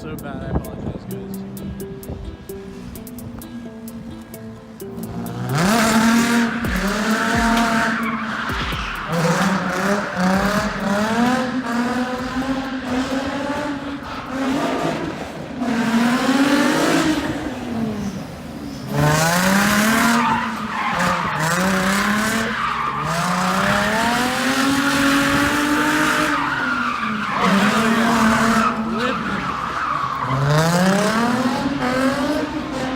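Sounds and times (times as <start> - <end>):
car engine revving: 0.0 - 32.9
tyres squealing and skidding: 0.0 - 32.9.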